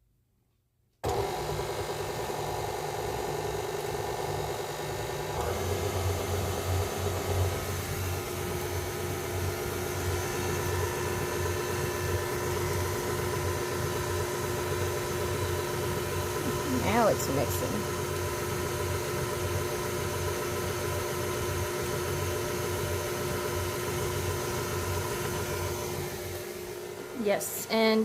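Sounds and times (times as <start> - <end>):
electric mixer running: 1.0 - 28.0.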